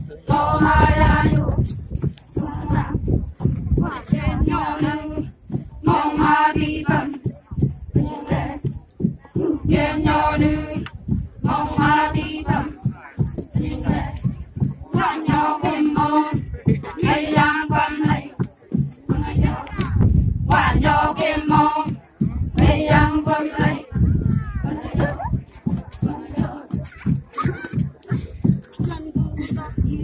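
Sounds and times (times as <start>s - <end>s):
group singing work song: 0.1s - 12.9s, 13.5s - 24.0s, 24.6s - 27.1s.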